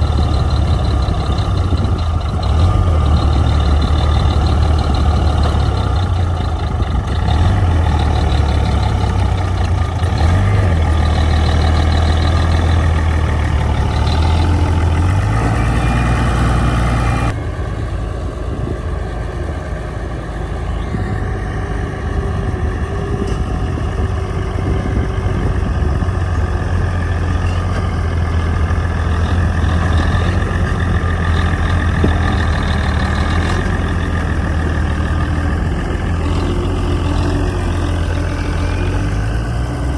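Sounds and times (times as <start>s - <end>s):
diesel engine of heavy machine: 0.0s - 39.9s.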